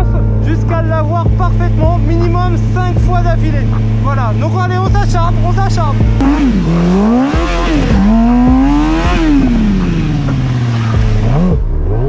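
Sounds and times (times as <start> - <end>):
motorcycle engine revving: 1.2 - 12.0.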